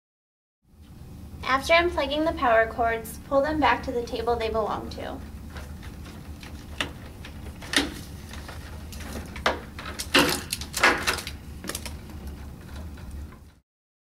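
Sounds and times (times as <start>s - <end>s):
steady low hum: 0.7s - 13.6s.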